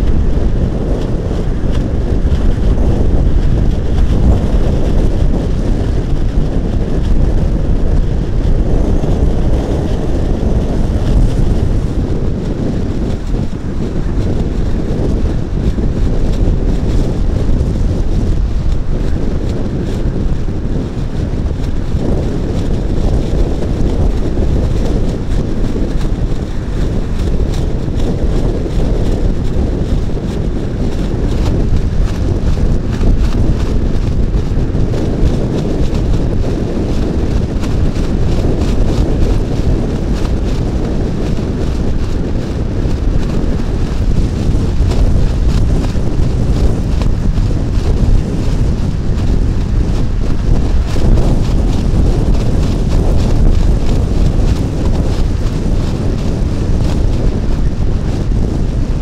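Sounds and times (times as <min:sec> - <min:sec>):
storm waves breaking on shore: 0:00.0 - 0:59.0
wind buffeting microphone: 0:00.0 - 0:59.0.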